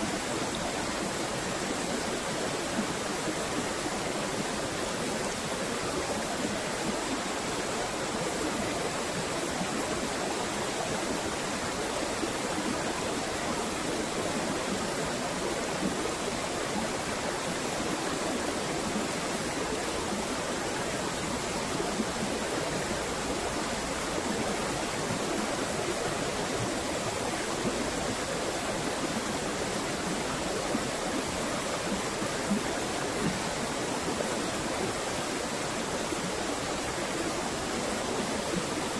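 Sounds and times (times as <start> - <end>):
rushing river water: 0.0 - 38.9.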